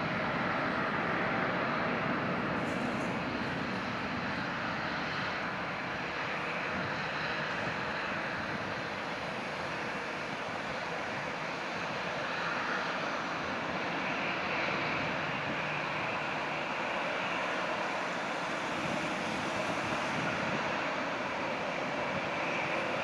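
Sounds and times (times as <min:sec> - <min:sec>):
jet engines at takeoff thrust: 0:00.0 - 0:23.0.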